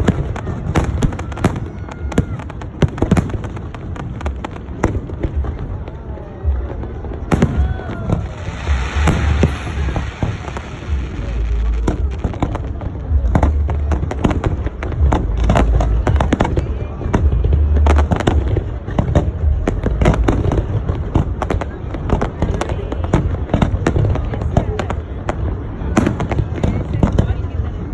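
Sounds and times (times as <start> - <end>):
deep fireworks booms: 0.0 - 27.8
fireworks bangs and crackles: 0.0 - 27.9.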